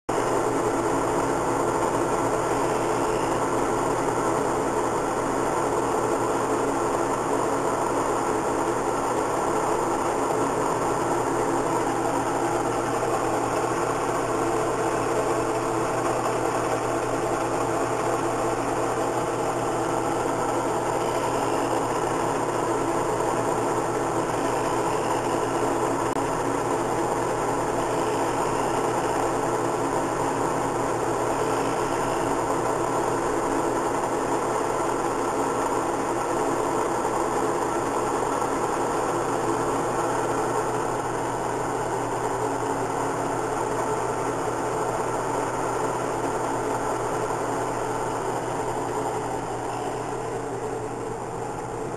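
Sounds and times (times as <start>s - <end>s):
milling machine running: 0.1s - 51.9s.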